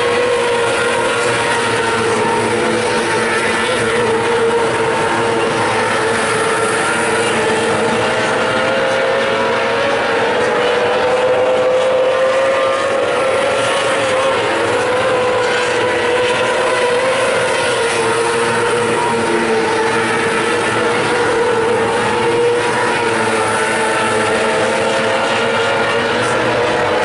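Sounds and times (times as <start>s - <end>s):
race car engines droning: 0.0s - 27.0s.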